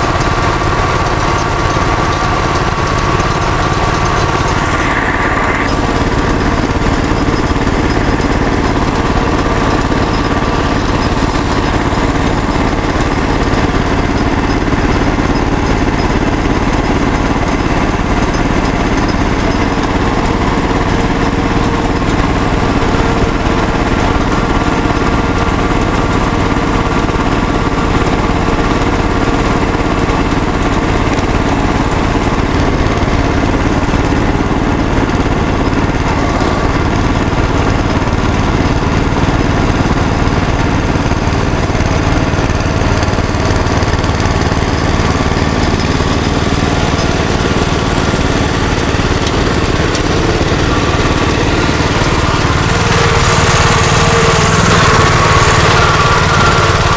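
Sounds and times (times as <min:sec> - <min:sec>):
small engine droning: 0:00.0 - 0:56.9.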